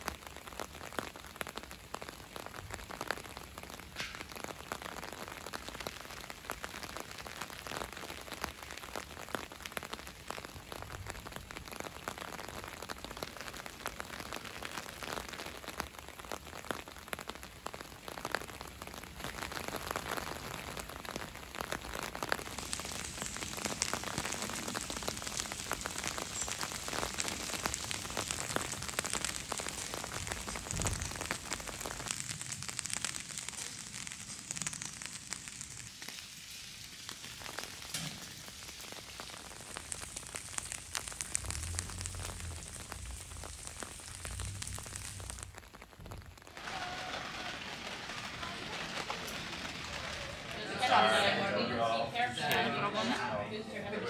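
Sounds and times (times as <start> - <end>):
raindrops ticking: 0.0 - 50.8
steady rain hiss: 0.0 - 54.0.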